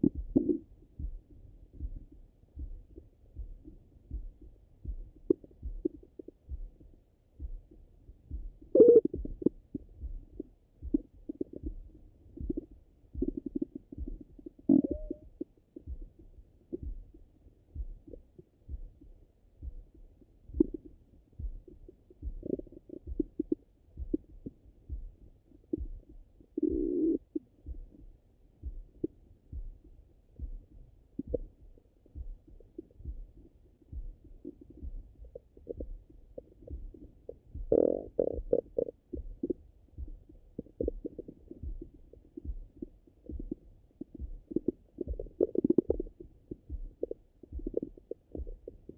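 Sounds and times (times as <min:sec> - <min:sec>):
stomach gurgles and rumbles: 0:00.0 - 0:06.9, 0:07.6 - 0:19.1, 0:19.8 - 0:25.0, 0:25.6 - 0:28.0, 0:30.4 - 0:48.9
low pulse thump: 0:00.0 - 0:48.9.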